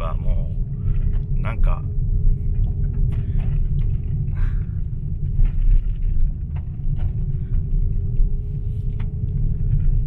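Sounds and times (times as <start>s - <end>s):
gravel clicking: 0.0s - 10.0s
tyres rumbling on road: 0.0s - 10.0s.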